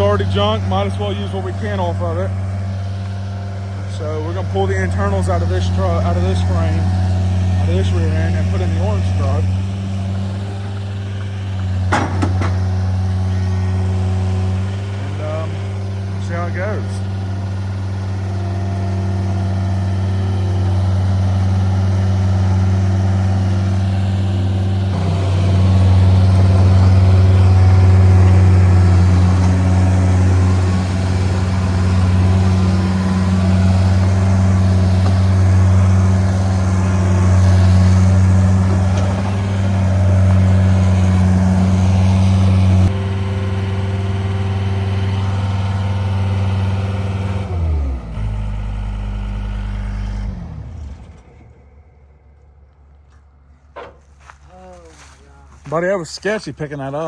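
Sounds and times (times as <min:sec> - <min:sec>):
heavy vehicle engine running: 0:00.0 - 0:54.4.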